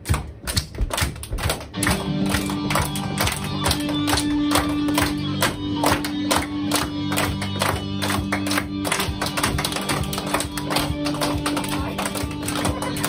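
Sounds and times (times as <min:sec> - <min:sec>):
children clapping: 0:00.0 - 0:13.0.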